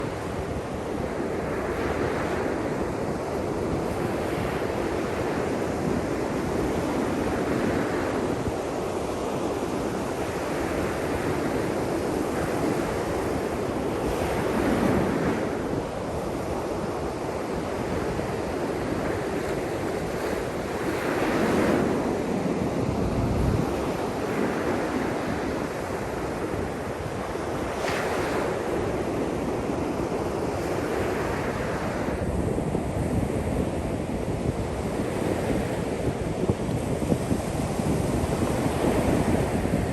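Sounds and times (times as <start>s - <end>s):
waves washing in: 0.0s - 39.9s
wind buffeting microphone: 0.0s - 39.9s.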